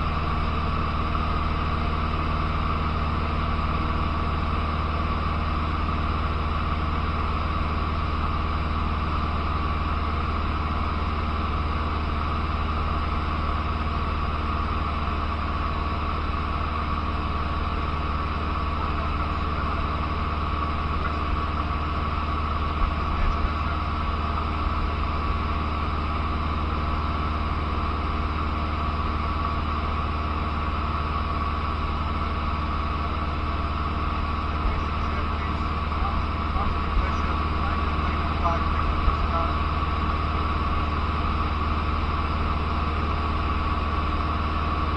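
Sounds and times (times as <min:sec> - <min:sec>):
propeller plane engine droning: 0:00.0 - 0:44.9.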